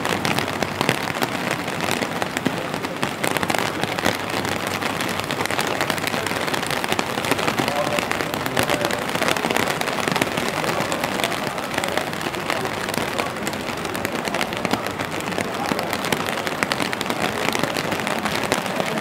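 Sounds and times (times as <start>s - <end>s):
constant rain hiss: 0.0s - 19.0s
rain pattering and dripping: 0.0s - 19.0s.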